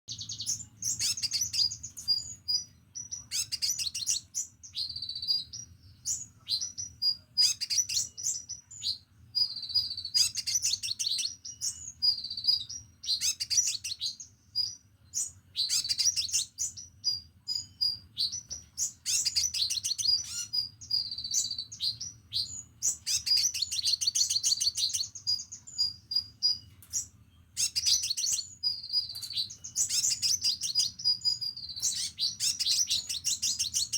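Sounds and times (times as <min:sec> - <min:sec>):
bird twittering trills: 0:00.1 - 0:33.9.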